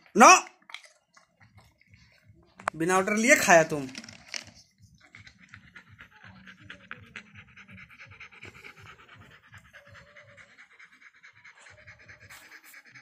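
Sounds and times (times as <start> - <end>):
dog panting: 0.8 - 13.0.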